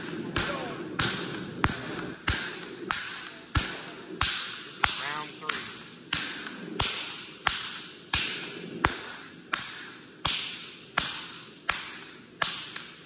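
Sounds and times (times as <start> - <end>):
hammer striking steel on anvil: 0.0 - 13.0.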